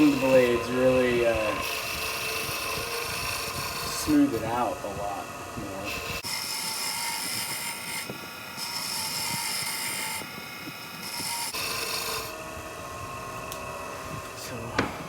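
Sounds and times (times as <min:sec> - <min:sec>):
chisel scraping spinning wood: 0:00.0 - 0:15.0
lathe motor whining: 0:00.0 - 0:15.0.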